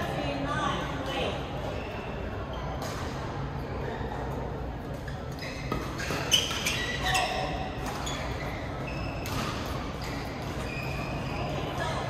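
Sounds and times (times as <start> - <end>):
shoes squeaking on court: 1.6 - 12.0.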